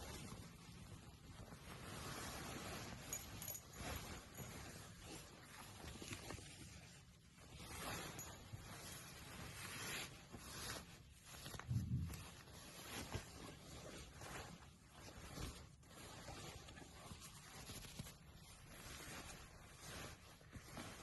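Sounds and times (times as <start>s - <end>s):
rustling and handling: 0.0s - 21.0s.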